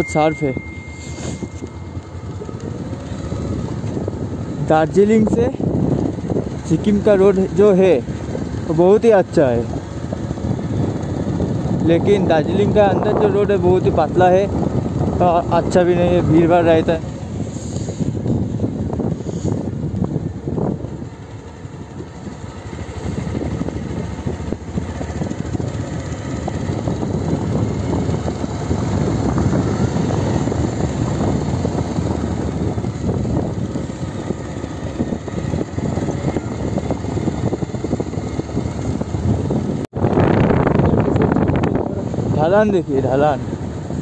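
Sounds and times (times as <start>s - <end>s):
motorcycle engine: 0.0s - 44.0s
wind buffeting microphone: 0.5s - 44.0s.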